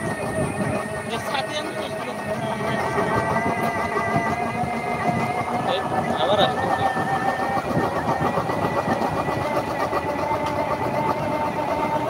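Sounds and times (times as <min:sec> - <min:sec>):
steady whine: 0:00.0 - 0:12.0
vehicle engine running: 0:00.0 - 0:12.0.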